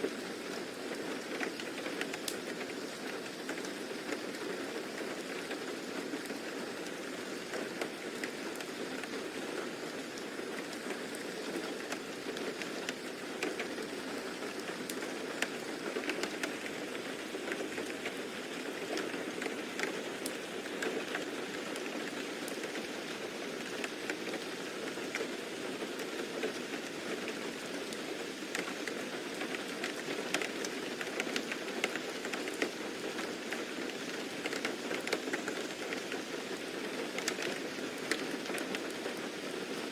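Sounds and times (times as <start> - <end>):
steady rain: 0.0 - 39.9
raindrop ticks: 1.0 - 5.6, 7.4 - 23.0, 23.6 - 39.2.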